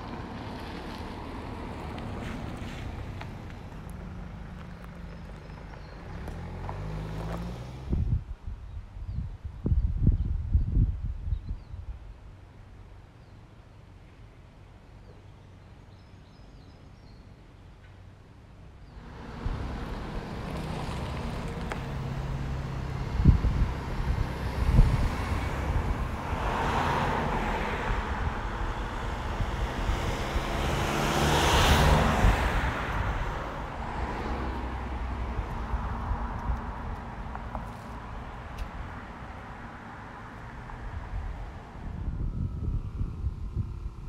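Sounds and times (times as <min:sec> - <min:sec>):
vehicles driving past: 0:00.0 - 0:08.2, 0:12.2 - 0:44.0.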